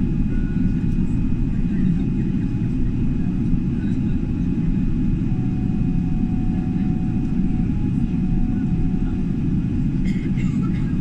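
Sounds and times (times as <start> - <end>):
airliner cabin rumble: 0.0 - 11.0
engine whine: 0.0 - 11.0.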